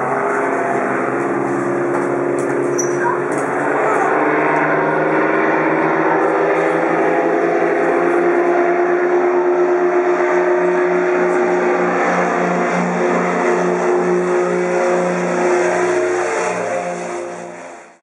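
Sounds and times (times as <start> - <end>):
propeller aircraft droning overhead: 0.0 - 18.0.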